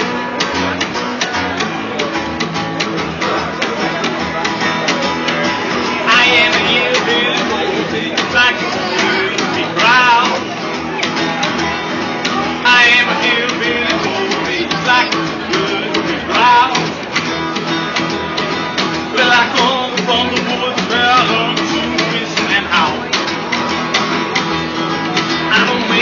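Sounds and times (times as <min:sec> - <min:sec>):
electric guitar: 0:00.0 - 0:26.0
rockabilly band playing live: 0:00.0 - 0:26.0.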